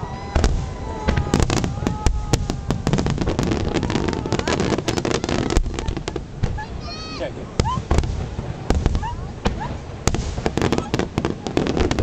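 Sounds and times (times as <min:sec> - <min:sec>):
fireworks bangs: 0:00.0 - 0:12.0
fireworks crackling: 0:00.0 - 0:12.0
fireworks whistling: 0:00.0 - 0:12.0.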